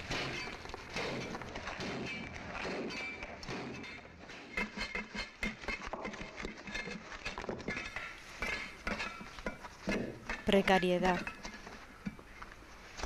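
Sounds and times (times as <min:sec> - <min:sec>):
hand tool chipping rock: 0:00.0 - 0:11.5.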